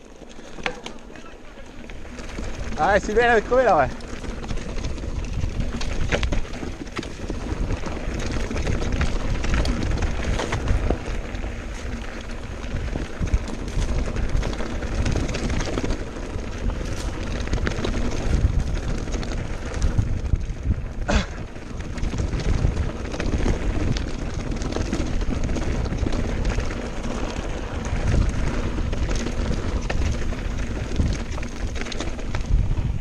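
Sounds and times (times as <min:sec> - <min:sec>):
bike tyres and frame rattling: 0:00.0 - 0:33.0
wind buffeting microphone: 0:01.8 - 0:33.0.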